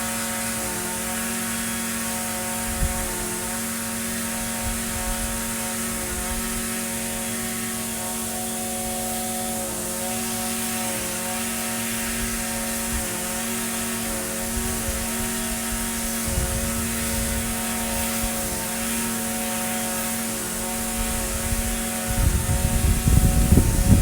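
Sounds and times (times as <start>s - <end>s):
string trimmer engine running: 0.0s - 24.0s.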